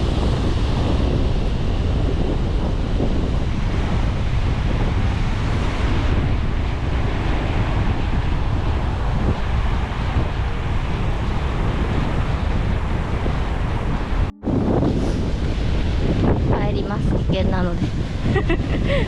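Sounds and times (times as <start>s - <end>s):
surf breaking on shore: 0.0s - 19.0s
wind buffeting microphone: 0.0s - 19.0s.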